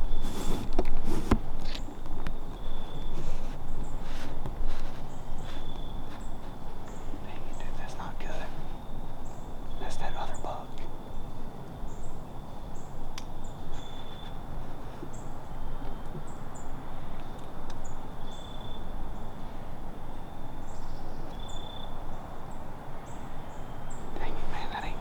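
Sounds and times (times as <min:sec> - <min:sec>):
low wind rumble: 0:00.0 - 0:21.2.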